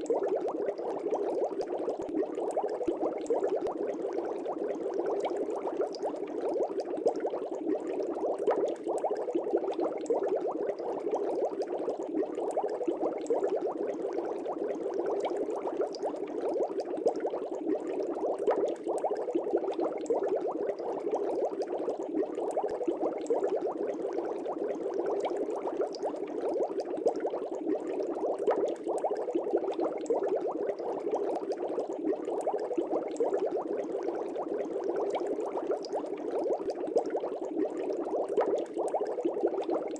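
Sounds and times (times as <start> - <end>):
aquarium air bubbling: 0.0 - 39.9.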